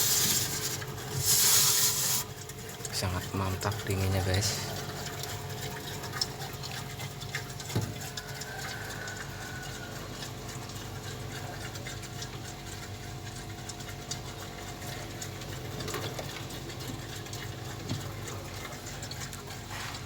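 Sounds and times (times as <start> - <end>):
refrigerator compressor humming: 0.0 - 20.0.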